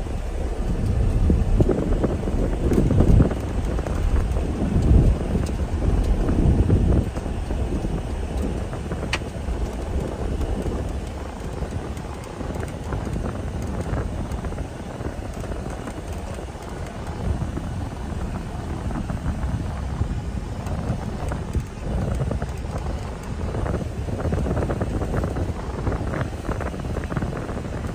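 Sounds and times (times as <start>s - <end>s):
vehicle cab rumble: 0.0s - 27.9s.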